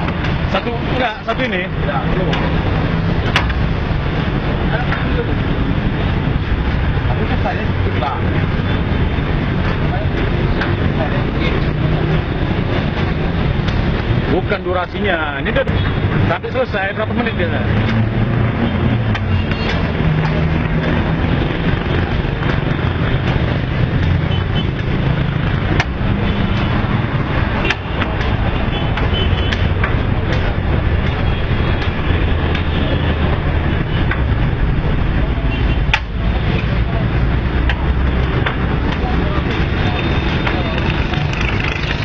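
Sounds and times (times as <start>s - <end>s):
loud steady noise with low hum: 0.0s - 42.0s.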